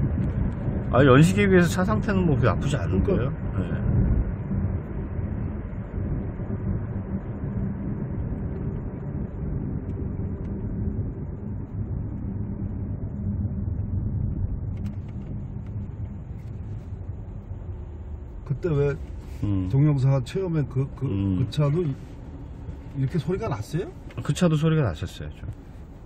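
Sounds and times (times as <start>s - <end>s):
low engine hum: 0.0s - 26.0s
road and tyre noise: 0.0s - 26.0s.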